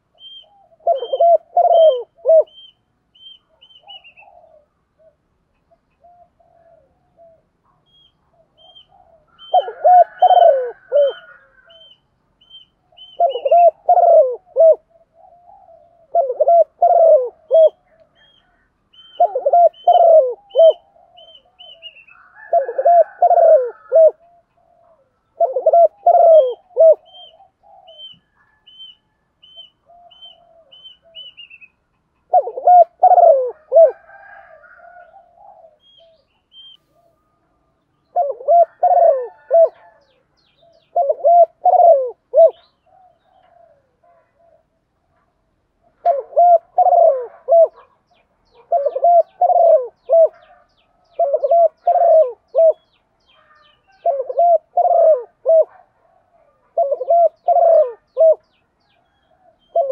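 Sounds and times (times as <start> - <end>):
dove cooing: 0.0 - 31.7, 32.3 - 59.9.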